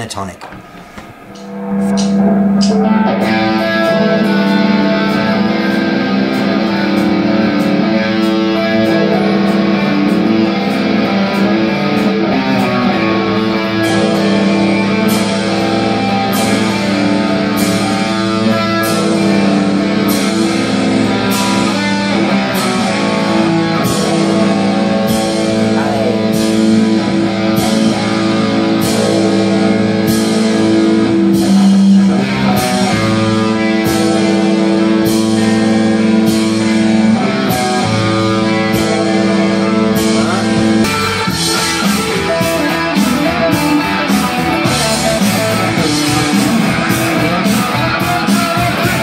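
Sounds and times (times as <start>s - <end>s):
regular beat of hits: 0.0s - 49.0s
electric guitar rock lead: 0.6s - 49.0s
steady low note: 1.0s - 47.3s.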